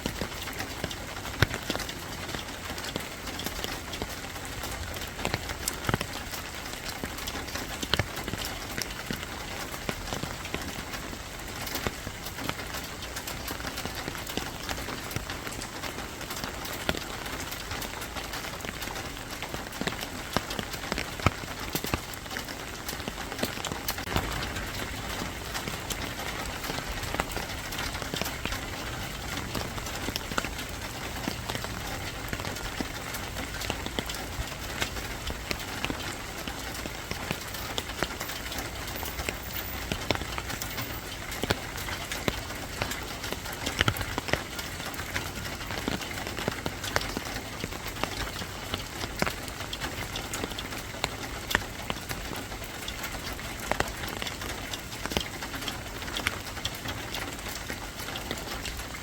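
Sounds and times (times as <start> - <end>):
rain hissing: 0.0 - 59.0
raindrops ticking on hard surface: 0.0 - 59.0.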